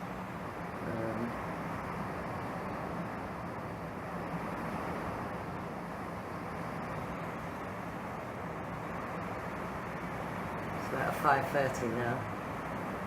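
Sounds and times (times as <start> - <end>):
torrential rain: 0.0 - 13.0.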